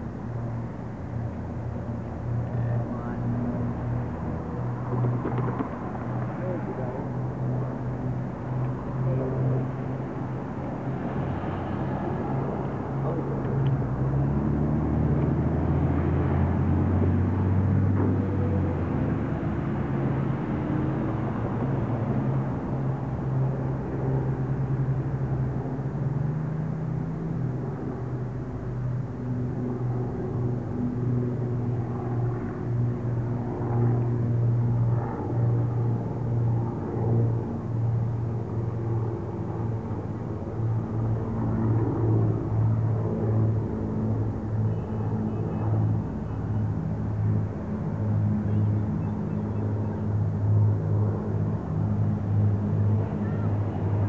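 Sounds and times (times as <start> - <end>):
propeller airplane engines droning: 0.0 - 54.0.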